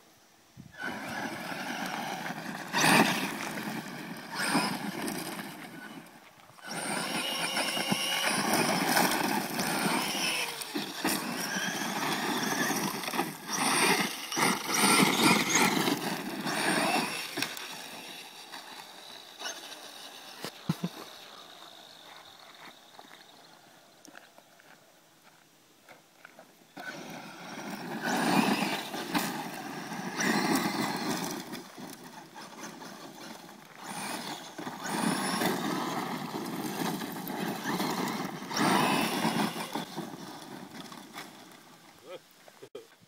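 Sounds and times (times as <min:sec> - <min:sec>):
electric motor whine: 0:00.8 - 0:23.9, 0:26.8 - 0:41.2
tyres crunching gravel: 0:00.8 - 0:43.0.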